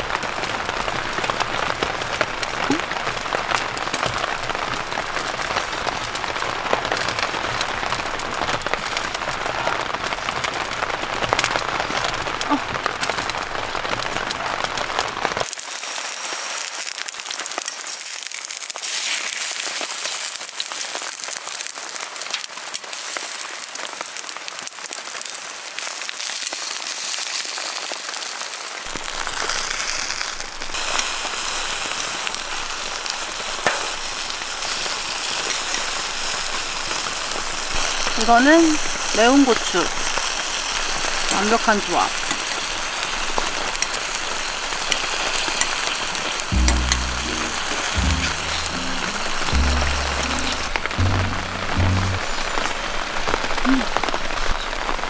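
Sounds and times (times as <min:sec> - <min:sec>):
rain pattering on a tent: 0:00.0 - 0:55.0.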